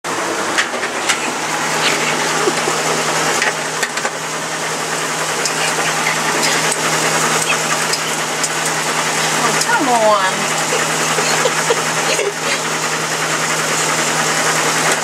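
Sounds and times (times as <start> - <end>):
machine humming: 0.1 - 15.0.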